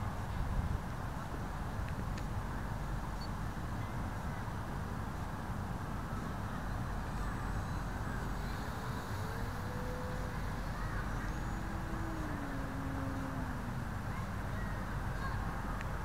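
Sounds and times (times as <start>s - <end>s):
wind buffeting microphone: 0.0s - 16.0s
model plane motor and propeller hum: 0.3s - 16.0s.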